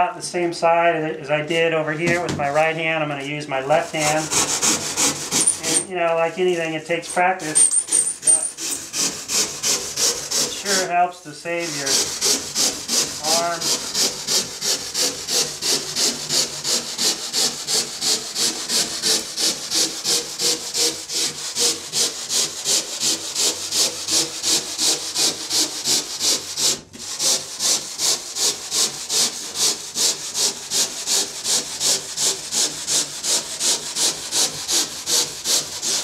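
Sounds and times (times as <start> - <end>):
handsaw cutting foam: 2.9 - 36.0.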